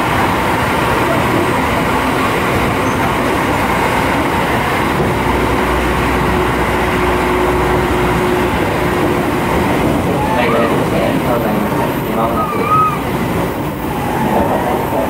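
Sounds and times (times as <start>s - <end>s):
deeper rumble: 0.0s - 15.0s
train wheels rumbling on rail: 0.0s - 15.0s.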